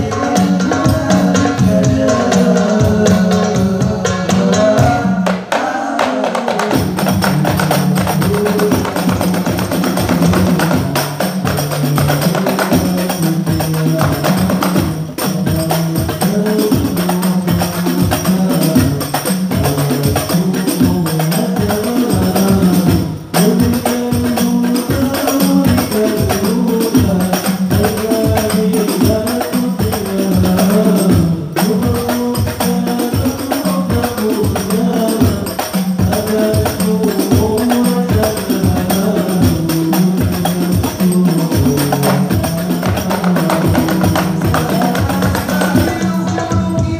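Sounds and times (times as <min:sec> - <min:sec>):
frame drums beating fast rhythm: 0:00.0 - 0:46.9
lead voice singing: 0:00.0 - 0:46.9.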